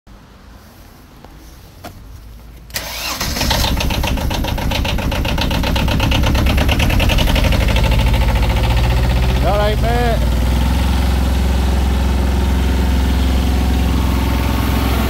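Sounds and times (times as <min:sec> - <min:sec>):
engine starting and running: 0:02.7 - 0:15.0.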